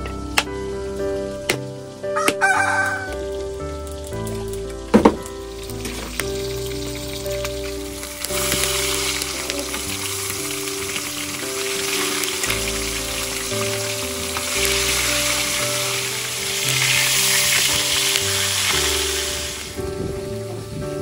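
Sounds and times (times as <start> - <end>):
soft background music: 0.0 - 21.0
fish frying in hot oil: 0.2 - 21.0.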